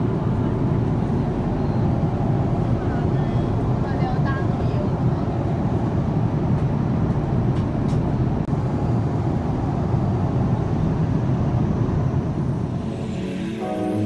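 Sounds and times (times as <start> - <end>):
airliner cabin engine rush: 0.0 - 14.0.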